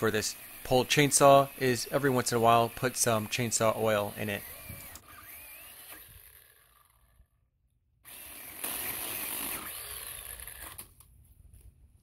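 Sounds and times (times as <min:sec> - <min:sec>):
electric chainsaw cutting wood: 0:00.0 - 0:07.4, 0:08.0 - 0:11.0.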